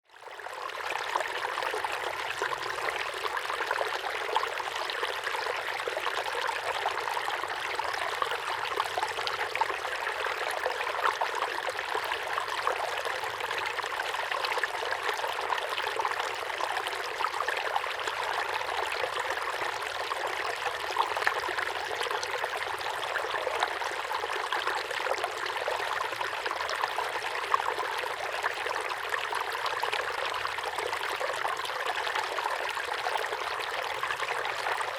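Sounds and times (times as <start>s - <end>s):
small waterfall pouring into pond: 0.1s - 34.9s.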